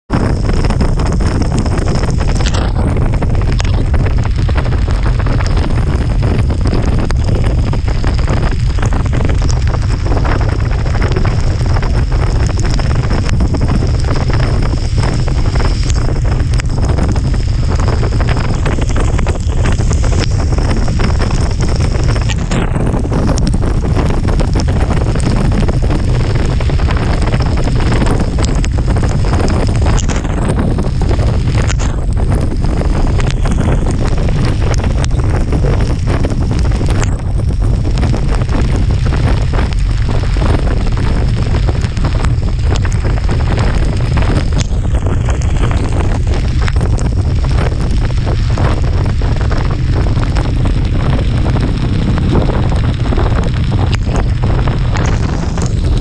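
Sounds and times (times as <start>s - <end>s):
wind buffeting microphone: 0.0s - 56.0s
steady rain: 0.1s - 56.0s.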